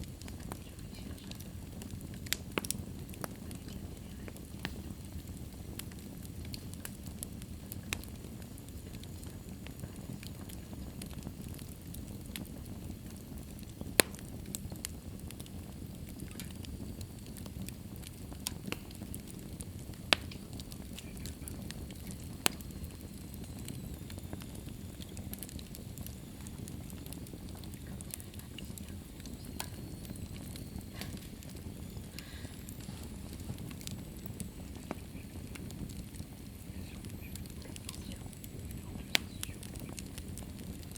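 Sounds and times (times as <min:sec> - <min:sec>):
fire crackling: 0:00.0 - 0:40.9
flames rushing: 0:00.0 - 0:40.9
wood fire popping: 0:00.0 - 0:40.9.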